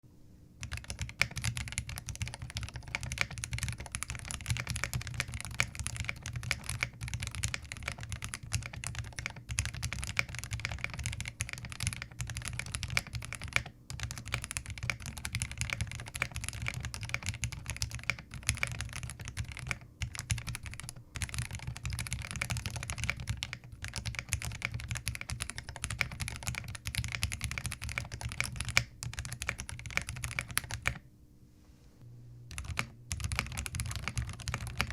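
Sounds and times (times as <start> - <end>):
mechanical keyboard typing: 0.6 - 31.0, 32.5 - 34.9.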